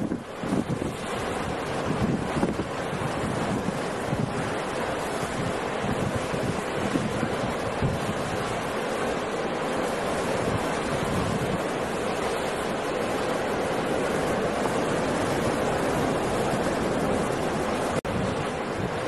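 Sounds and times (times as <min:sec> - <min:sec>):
waves breaking: 0:00.0 - 0:19.0.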